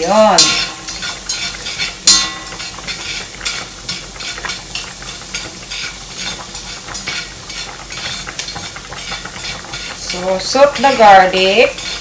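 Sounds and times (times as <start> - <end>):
garlic sizzling in butter: 0.0 - 12.0
spatula scraping a pan: 0.0 - 12.0.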